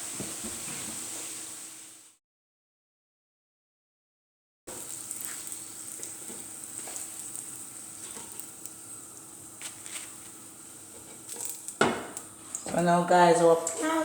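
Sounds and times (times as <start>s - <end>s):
plantain slices frying in oil: 0.0s - 2.2s, 4.7s - 14.0s
sharp crackles of frying: 0.0s - 2.2s, 4.7s - 14.0s.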